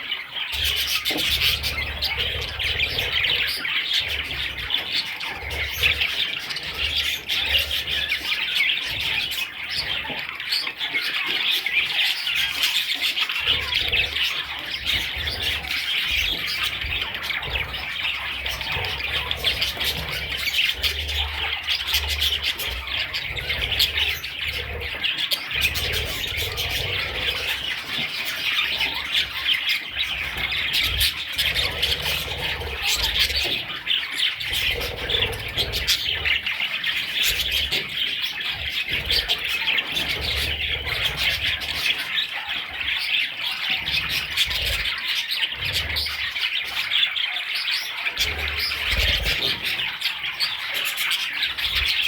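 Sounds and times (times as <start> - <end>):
budgerigars chattering and chirping: 0.0 - 52.0.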